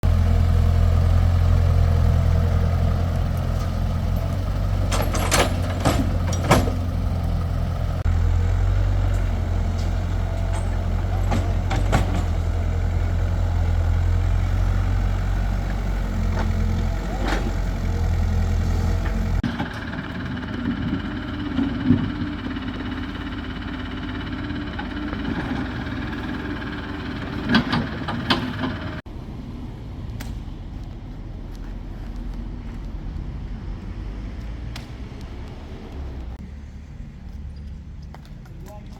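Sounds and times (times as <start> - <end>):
heavy diesel engine running: 0.0 - 37.1.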